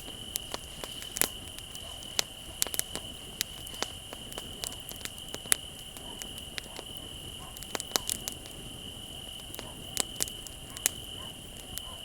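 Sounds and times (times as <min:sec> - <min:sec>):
bonfire crackling and popping: 0:00.0 - 0:12.0
crickets trilling: 0:00.0 - 0:12.0.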